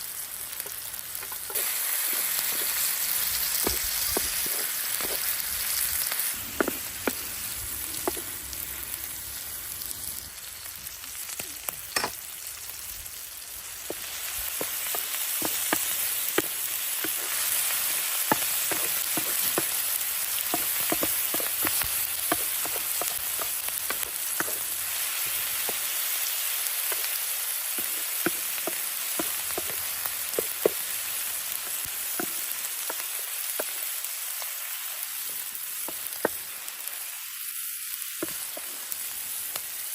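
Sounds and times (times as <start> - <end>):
mushrooms sizzling in a pan: 0.0 - 39.9.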